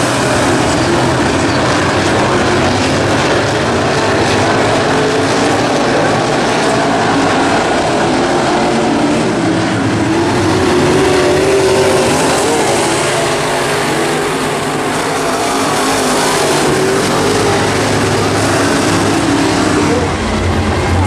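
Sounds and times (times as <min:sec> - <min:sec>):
race car engines running hard: 0:00.0 - 0:21.0.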